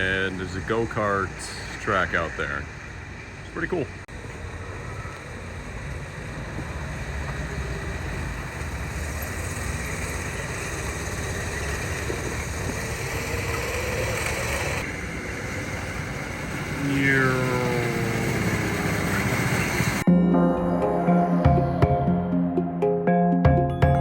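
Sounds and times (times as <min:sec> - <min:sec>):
traffic rumble: 0:00.0 - 0:22.8.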